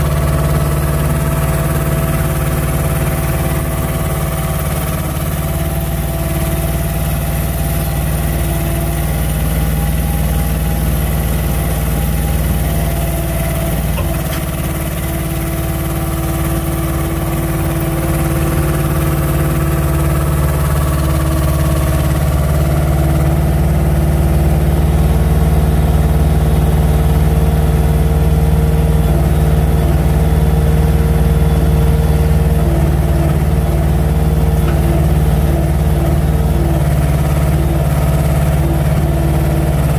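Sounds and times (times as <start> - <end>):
hydraulic crane hum: 0.0 - 24.4, 29.0 - 39.9
diesel truck engine running: 0.0 - 39.9.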